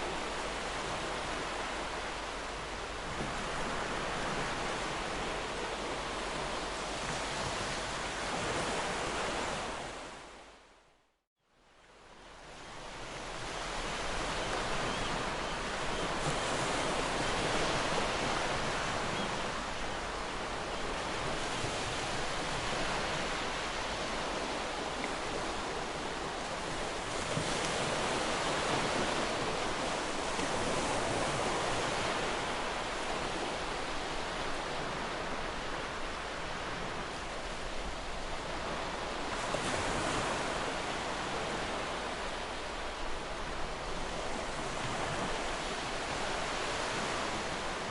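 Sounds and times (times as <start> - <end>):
sea waves washing onto shore: 0.0 - 10.3, 12.4 - 47.9.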